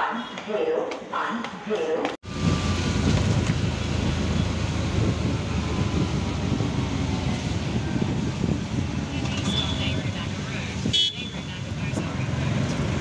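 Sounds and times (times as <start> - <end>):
road and wind noise: 1.7 - 13.0
engine drone: 2.2 - 13.0.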